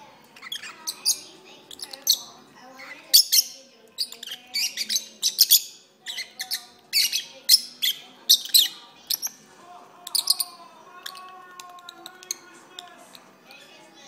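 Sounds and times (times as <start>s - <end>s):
lovebirds chirping and squeaking: 0.2s - 9.5s, 10.1s - 13.6s.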